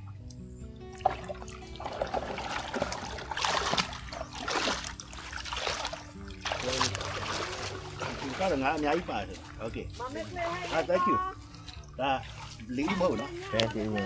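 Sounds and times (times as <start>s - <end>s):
pond water splashing: 0.0s - 14.0s.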